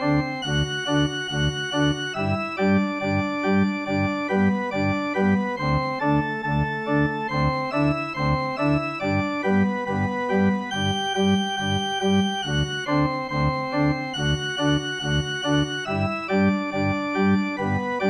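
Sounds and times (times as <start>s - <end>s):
button accordion playing polka: 0.0s - 18.0s
oom-pah bass and chords: 0.0s - 18.0s.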